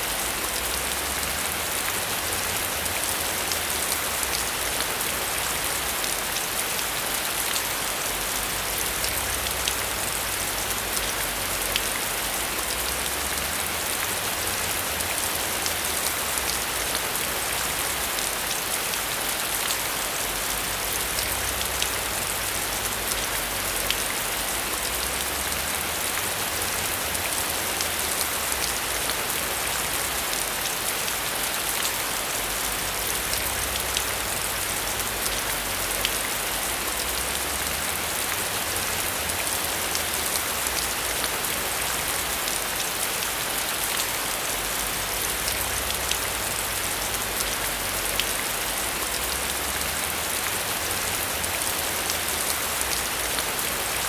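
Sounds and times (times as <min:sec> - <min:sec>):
heavy rain on metal roof: 0:00.0 - 0:54.0.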